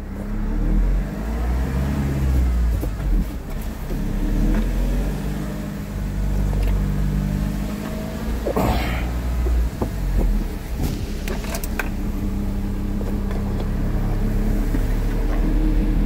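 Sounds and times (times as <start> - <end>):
road rumble: 0.0 - 16.0
car engine running: 2.7 - 16.0.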